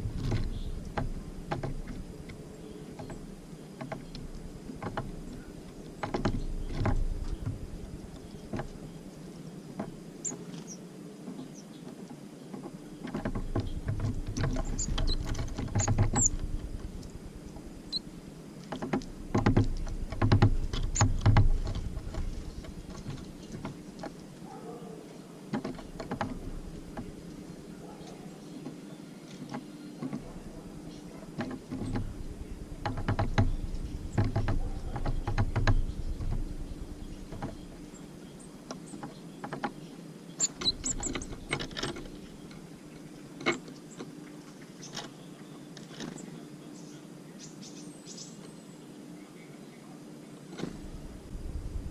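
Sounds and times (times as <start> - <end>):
birds pecking at feeder: 0.0 - 45.2.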